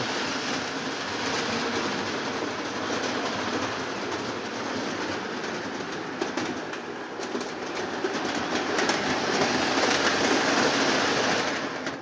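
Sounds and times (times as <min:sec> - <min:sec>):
toy train motor and wheels rattling: 0:00.0 - 0:12.0.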